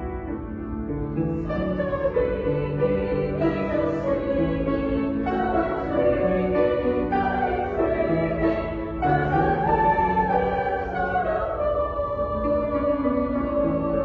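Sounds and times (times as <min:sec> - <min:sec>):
women's choir singing: 0:01.4 - 0:14.0.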